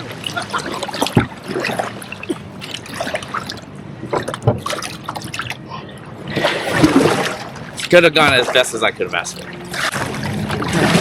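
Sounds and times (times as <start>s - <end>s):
water dripping and splashing: 0.0s - 5.6s, 6.3s - 11.0s.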